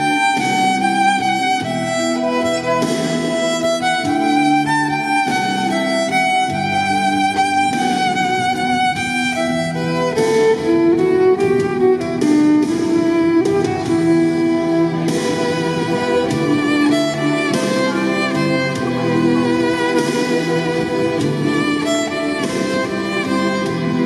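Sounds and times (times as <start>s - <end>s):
amplified violin melody: 0.0s - 24.0s
violin strummed: 0.0s - 24.0s.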